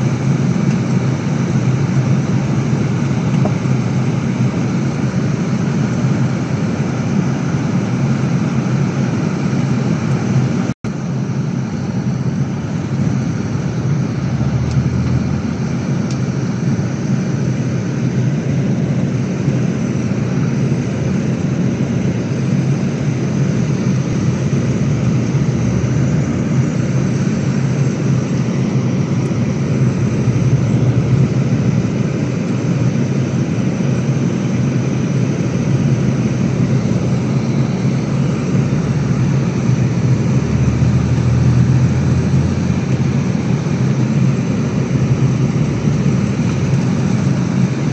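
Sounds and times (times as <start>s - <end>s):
coach engine drone and road noise: 0.0s - 47.9s.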